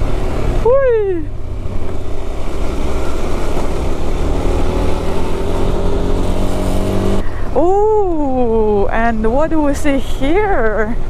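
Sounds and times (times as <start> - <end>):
road rumble: 0.0 - 11.0.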